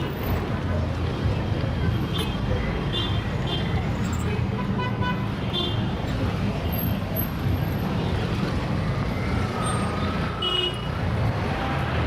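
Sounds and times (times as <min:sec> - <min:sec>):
heavy traffic rumble: 0:00.0 - 0:12.0.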